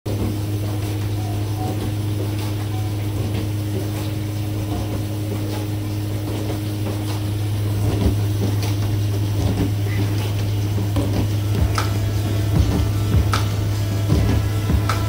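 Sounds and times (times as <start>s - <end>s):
dishwasher pump motor humming: 0.0s - 15.0s
water spraying and sloshing: 0.1s - 15.0s.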